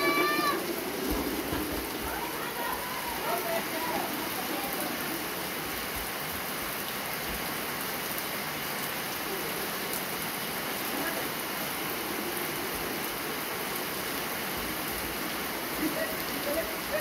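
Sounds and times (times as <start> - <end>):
rain on wet pavement: 0.0 - 17.0
water streaming off roof: 0.0 - 17.0.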